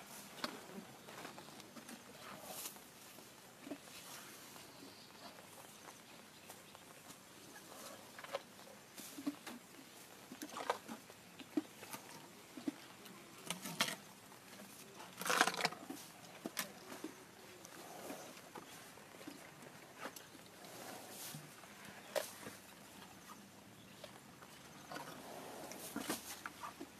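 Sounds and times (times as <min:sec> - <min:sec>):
elephant crunching grass: 0:00.0 - 0:26.9.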